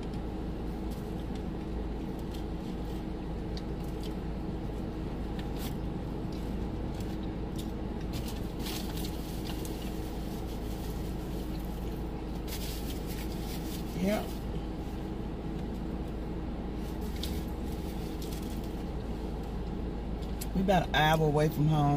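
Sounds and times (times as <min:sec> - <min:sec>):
car interior hum: 0:00.0 - 0:21.9.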